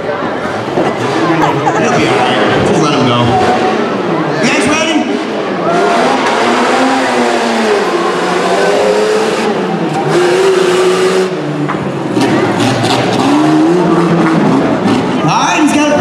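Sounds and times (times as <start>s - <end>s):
car engine revving hard: 0.5s - 16.0s.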